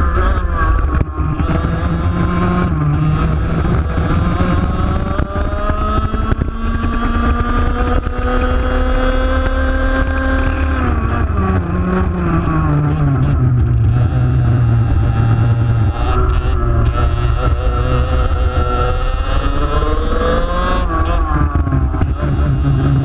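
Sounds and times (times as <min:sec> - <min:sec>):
kart engine accelerating: 0:00.0 - 0:23.0.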